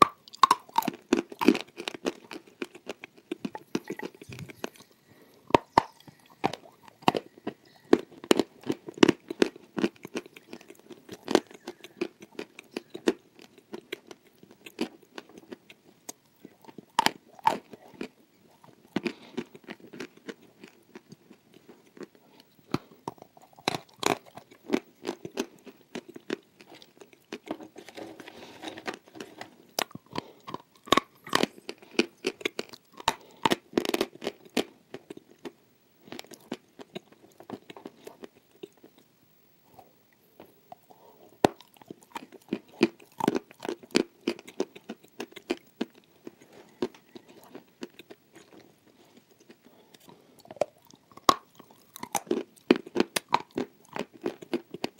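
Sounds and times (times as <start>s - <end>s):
crunchy chewing: 0.0s - 39.1s, 39.7s - 54.9s.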